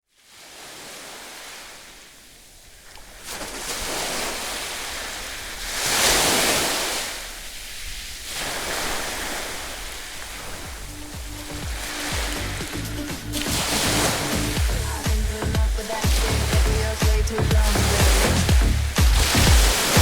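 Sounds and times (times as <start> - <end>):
ocean waves breaking: 0.2 - 20.0.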